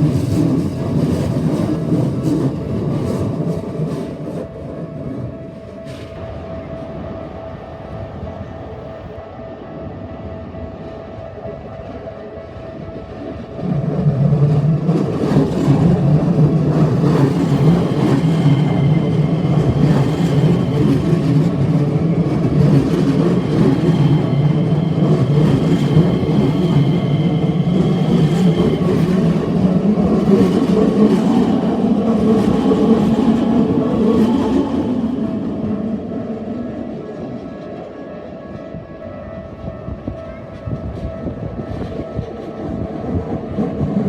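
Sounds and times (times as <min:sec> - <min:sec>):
train rumbling on curve: 0:00.0 - 0:44.0.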